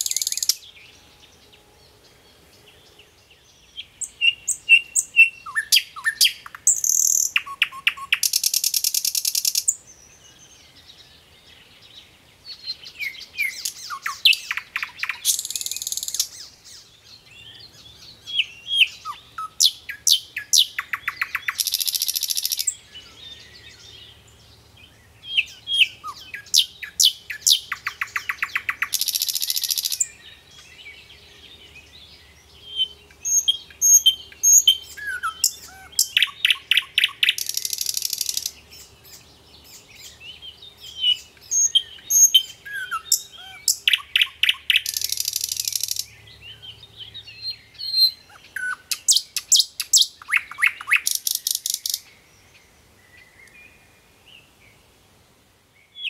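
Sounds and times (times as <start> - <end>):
chaffinch singing: 0.0 - 54.9.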